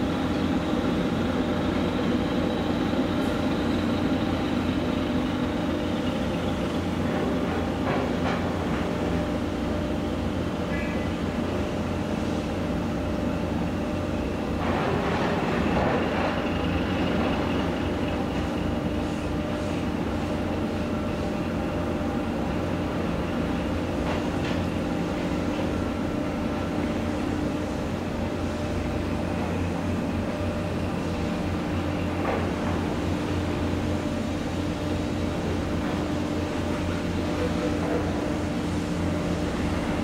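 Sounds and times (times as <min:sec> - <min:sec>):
ship diesel engines droning: 0:00.0 - 0:40.0.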